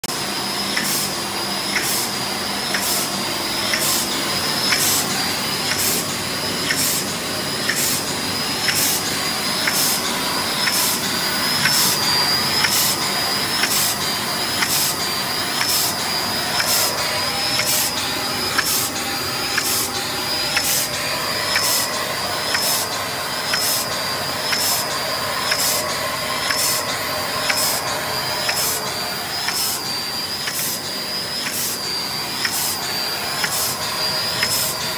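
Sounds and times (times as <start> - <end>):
machine hissing with rhythmic beat: 0.1 - 34.9.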